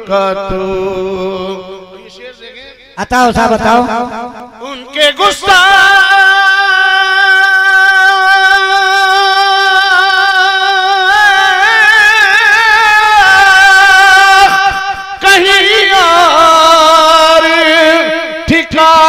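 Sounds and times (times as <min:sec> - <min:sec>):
man singing into a microphone: 0:00.0 - 0:19.0.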